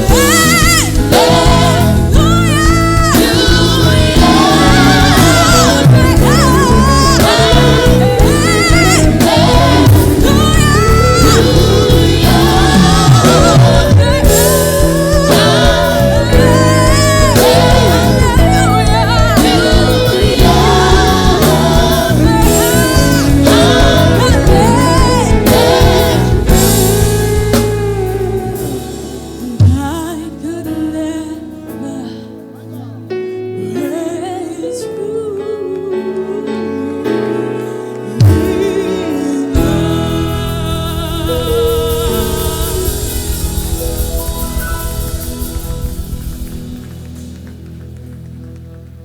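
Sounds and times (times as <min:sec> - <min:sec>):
gospel singing with accompaniment: 0:00.0 - 0:49.0.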